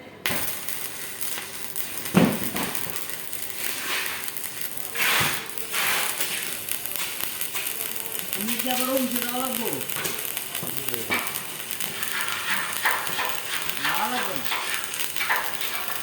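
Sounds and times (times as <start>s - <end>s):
arc welding crackling: 0.2s - 16.0s.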